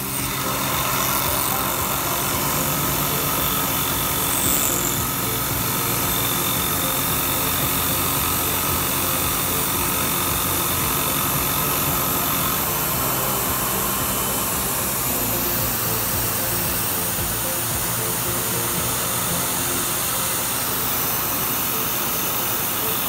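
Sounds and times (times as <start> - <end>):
background music: 0.0 - 23.0
mill cutting aluminum: 0.0 - 23.0
spindle whine: 0.0 - 23.0.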